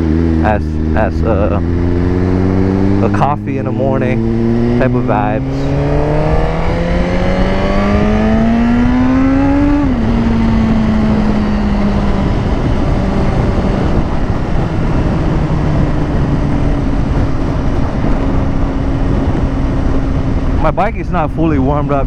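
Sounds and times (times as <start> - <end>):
motorcycle engine revving: 0.0 - 22.0
wind rush: 0.0 - 22.0.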